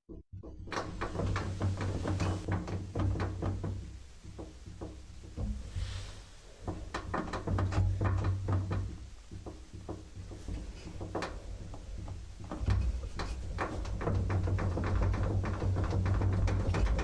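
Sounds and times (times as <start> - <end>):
drum knocking and clattering: 0.1 - 17.0
washing machine motor hum: 0.6 - 17.0.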